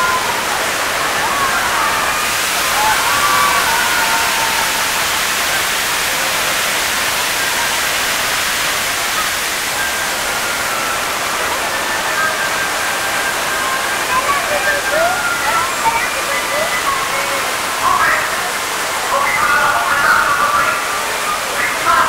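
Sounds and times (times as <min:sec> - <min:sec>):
water rushing down rocks: 0:00.0 - 0:22.0.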